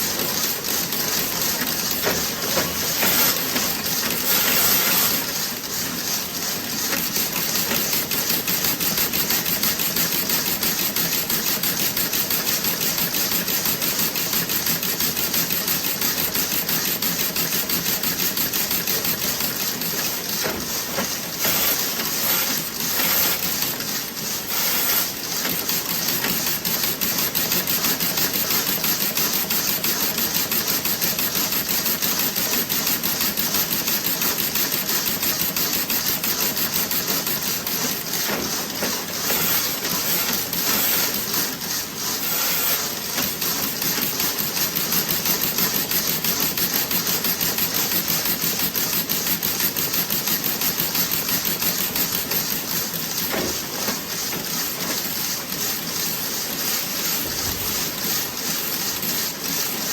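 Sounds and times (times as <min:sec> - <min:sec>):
knitting machine clattering: 0:00.0 - 0:59.9.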